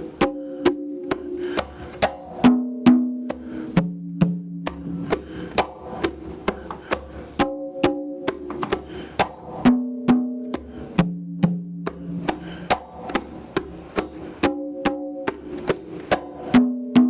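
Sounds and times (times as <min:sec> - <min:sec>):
congas played by hand: 0:00.0 - 0:17.0.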